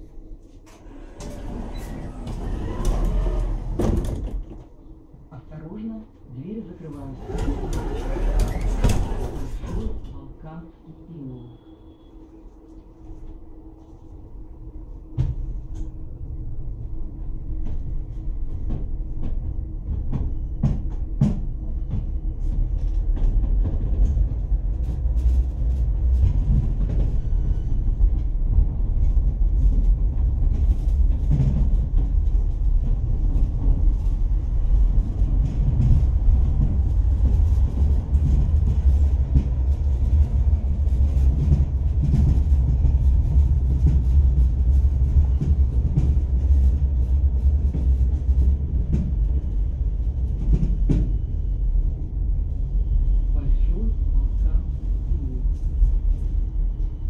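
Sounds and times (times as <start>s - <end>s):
tram wheels rumbling: 0.0s - 57.0s.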